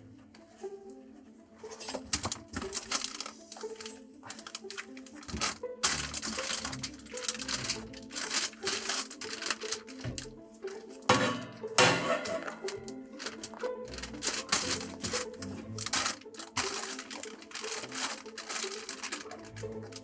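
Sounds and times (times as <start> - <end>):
background music with held notes: 0.0 - 20.0
insulation wool crinkling: 1.6 - 11.1, 12.1 - 20.0.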